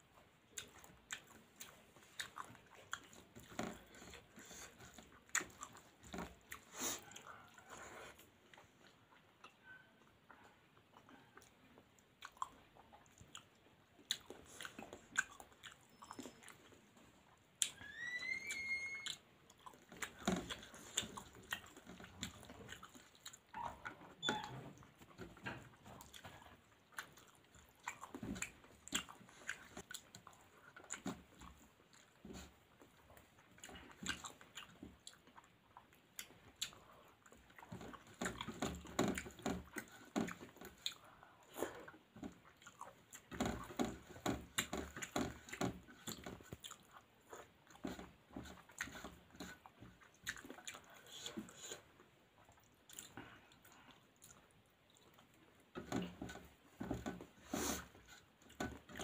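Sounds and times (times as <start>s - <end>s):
chewing and mouth smacks: 0.2s - 17.8s, 19.0s - 59.0s.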